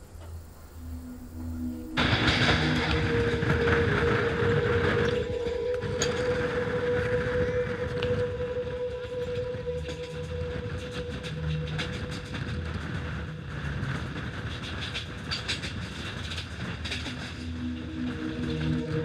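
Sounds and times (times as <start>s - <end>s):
electric train rumbling: 0.0s - 19.0s
steady whine: 0.0s - 19.0s
wheels clicking over rails: 0.0s - 19.0s.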